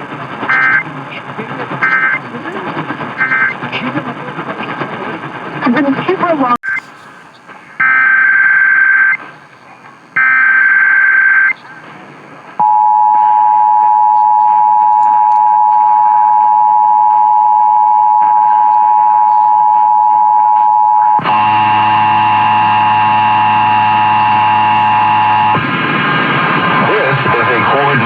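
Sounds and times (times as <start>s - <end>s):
low buzzing hum: 0.0s - 28.0s.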